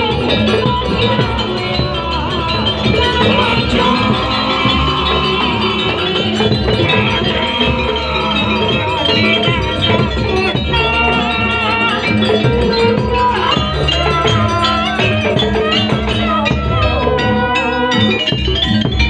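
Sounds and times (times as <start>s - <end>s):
drums: 0.0s - 19.0s
struck metal percussion ringing: 0.0s - 19.0s
wavering melody line: 0.0s - 19.0s.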